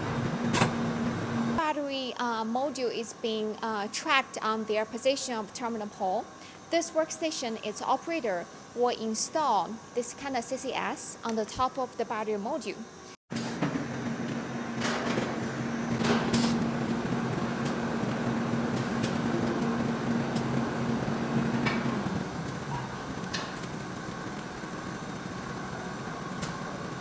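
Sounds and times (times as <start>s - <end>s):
machine hum: 0.0s - 10.0s, 12.8s - 27.0s.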